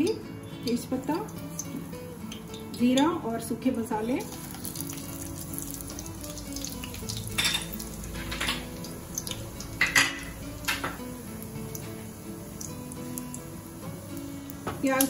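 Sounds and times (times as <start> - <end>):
spices sizzling in hot oil: 0.0 - 15.0.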